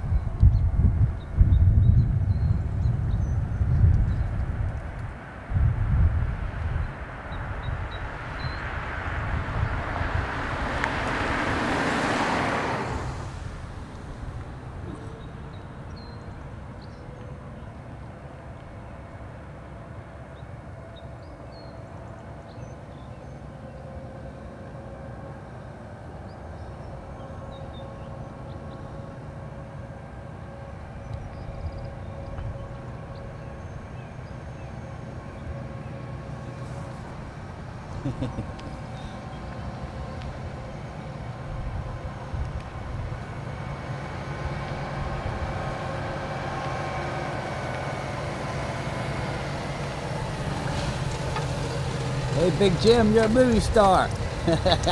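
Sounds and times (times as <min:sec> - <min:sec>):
truck diesel engine rumbling: 0:00.0 - 0:20.2, 0:22.1 - 0:54.9.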